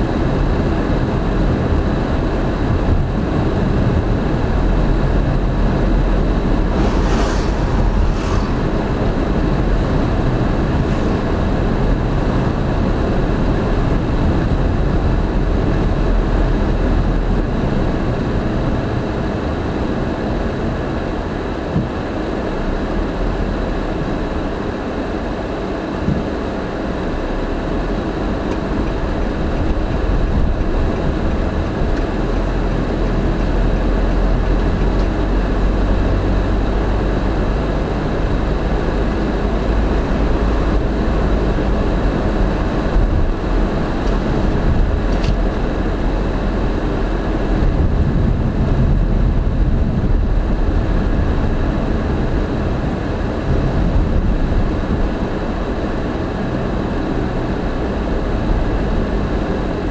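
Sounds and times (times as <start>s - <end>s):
road and engine rumble in car: 0.0s - 59.9s.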